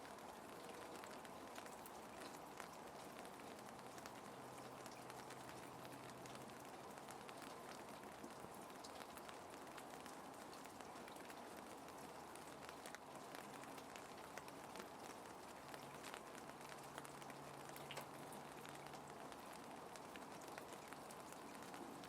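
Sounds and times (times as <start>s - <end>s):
raindrops ticking: 0.0s - 22.0s
soft rain hiss: 0.0s - 22.0s.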